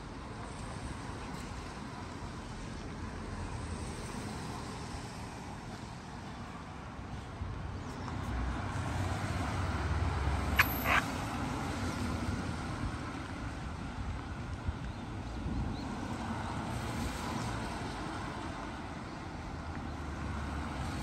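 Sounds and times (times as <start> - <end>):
traffic on wet roads: 0.0 - 21.0.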